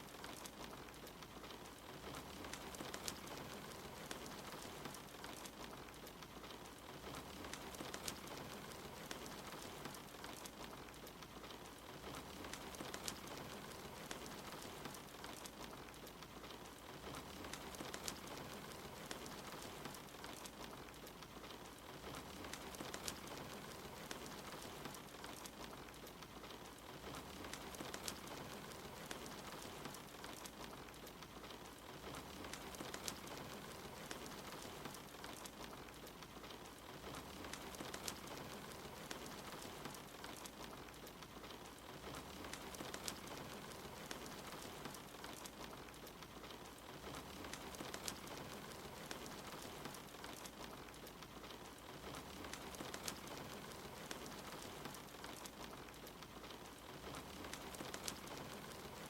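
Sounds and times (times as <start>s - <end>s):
soft rain hiss: 0.0s - 59.0s
wood fire crackling: 0.0s - 59.0s.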